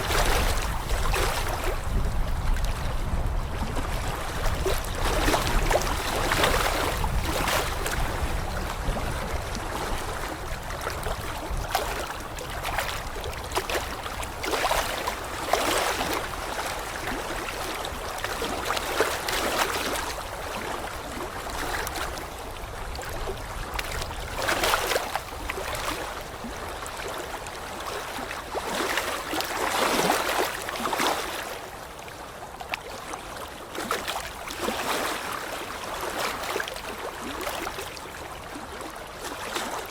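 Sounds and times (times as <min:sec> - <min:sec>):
water washing in surges: 0:00.0 - 0:39.9.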